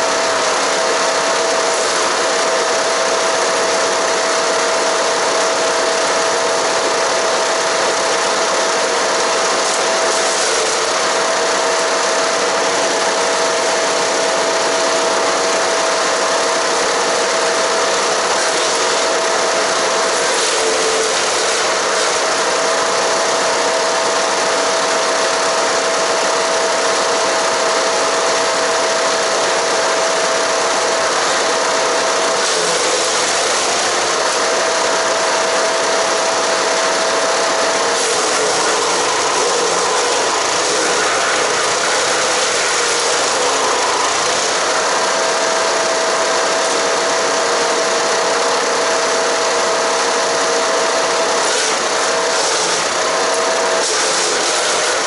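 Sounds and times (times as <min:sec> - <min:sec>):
steady whine: 0:00.0 - 0:55.0
wood chipper chipping branches: 0:00.0 - 0:55.0.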